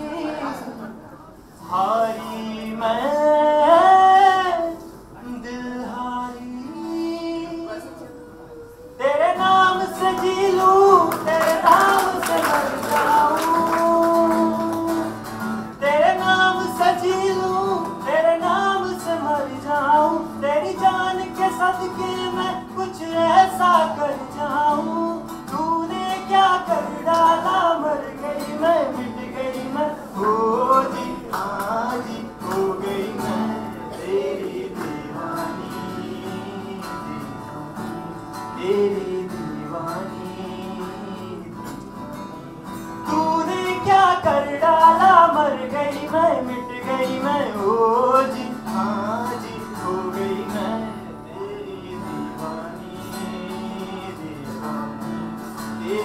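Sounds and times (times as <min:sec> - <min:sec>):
man singing into a microphone: 0:00.0 - 0:00.9, 0:01.6 - 0:56.0
acoustic guitar: 0:00.0 - 0:56.0.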